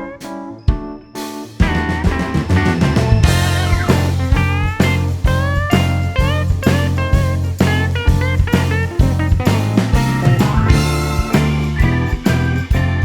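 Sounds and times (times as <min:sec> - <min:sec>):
steady drum beat: 0:00.7 - 0:13.0
bass line: 0:01.6 - 0:13.0
blues-rock electric guitar: 0:01.6 - 0:13.0.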